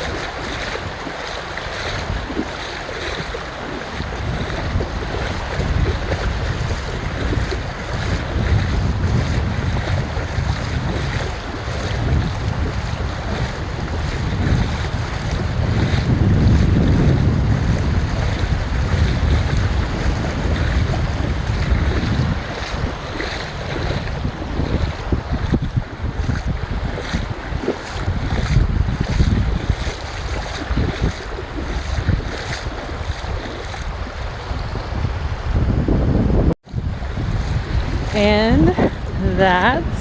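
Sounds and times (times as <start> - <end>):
surf washing onto beach: 0.0 - 40.0
wind buffeting microphone: 0.0 - 40.0.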